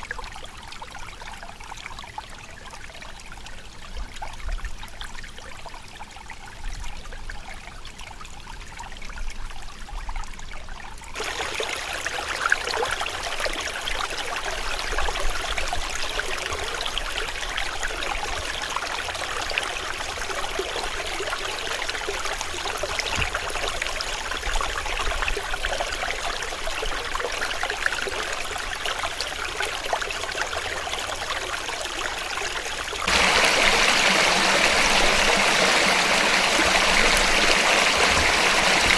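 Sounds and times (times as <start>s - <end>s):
steady flow of water: 0.0s - 38.9s
stream water trickling and splashing: 0.0s - 38.9s.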